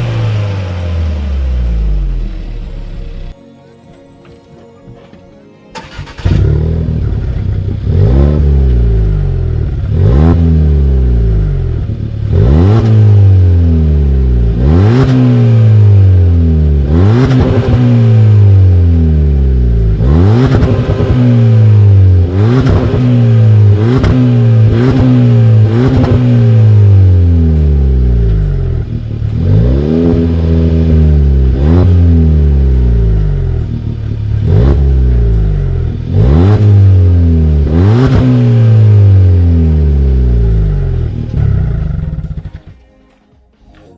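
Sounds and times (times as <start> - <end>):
car engine revving: 0.0 - 3.4, 5.7 - 42.8.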